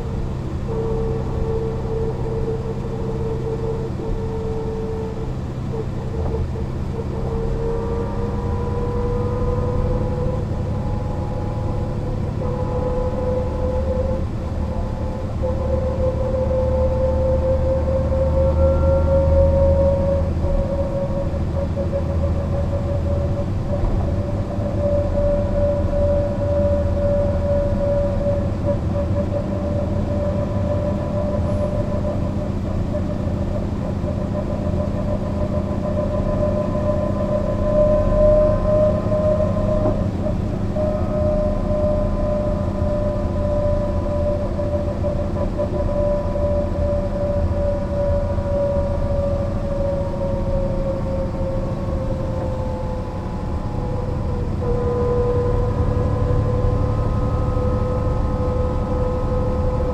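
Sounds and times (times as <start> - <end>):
bus diesel engine rumble: 0.0 - 59.9
steady whine: 0.0 - 59.9.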